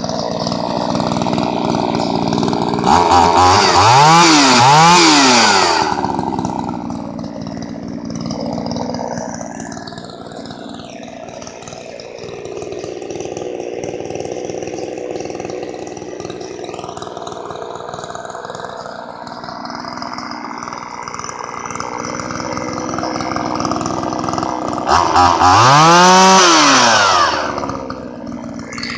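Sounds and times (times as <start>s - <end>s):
chainsaw engine idling: 0.0s - 28.9s.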